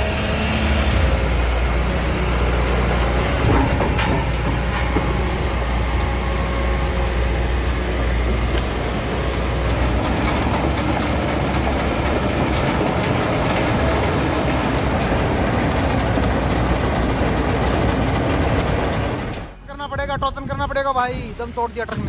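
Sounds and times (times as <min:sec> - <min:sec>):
deep rumble: 0:00.0 - 0:22.0
heavy vehicles running: 0:00.0 - 0:22.0
rattling clatter: 0:00.9 - 0:19.6.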